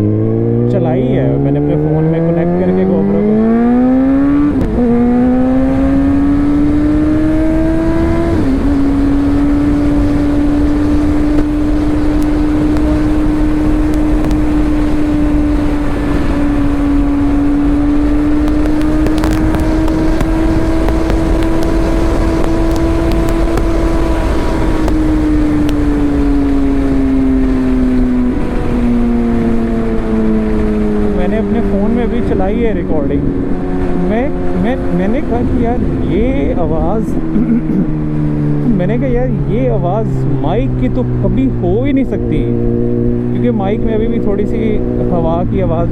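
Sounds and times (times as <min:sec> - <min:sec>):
motorcycle engine at speed: 0:00.0 - 0:45.9
wind rumble: 0:00.0 - 0:45.9.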